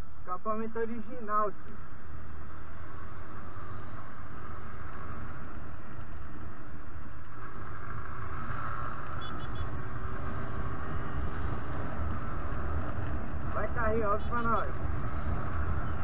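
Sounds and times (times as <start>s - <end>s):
motorcycle engine cruising: 1.8s - 16.0s.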